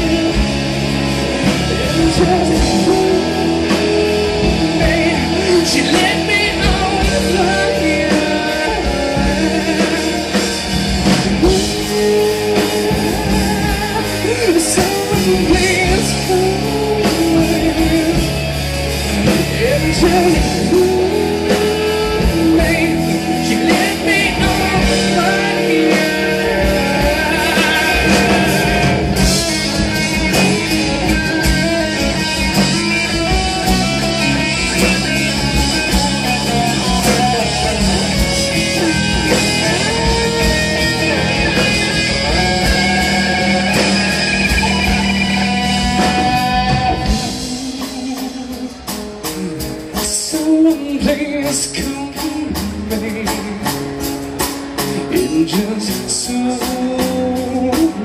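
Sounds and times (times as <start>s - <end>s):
bass guitar: 0.0s - 58.0s
drums: 0.0s - 58.0s
electric guitar: 0.0s - 58.0s.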